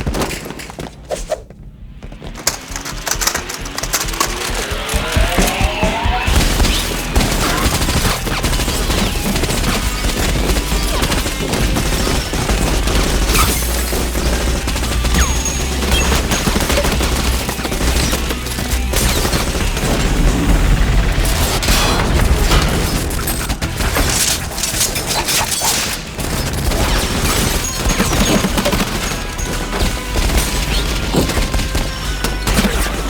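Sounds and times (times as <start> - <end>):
rapid gunfire: 2.3 - 33.0.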